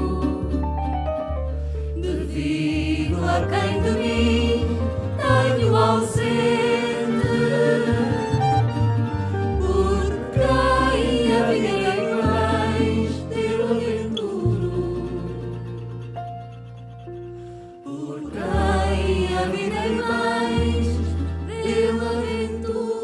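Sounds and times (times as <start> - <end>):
double bass: 0.0 - 23.0
piano: 0.0 - 23.0.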